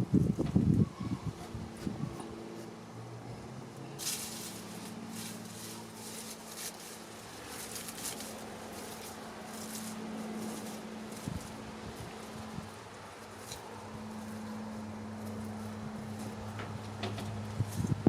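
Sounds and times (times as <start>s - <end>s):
steady low hum: 0.0s - 18.0s
light scratching and rustling: 0.2s - 2.8s, 3.7s - 18.0s.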